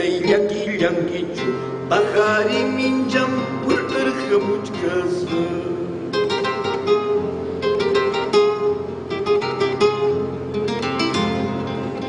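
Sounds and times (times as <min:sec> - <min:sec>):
fingerpicked classical guitar melody: 0:00.0 - 0:12.0.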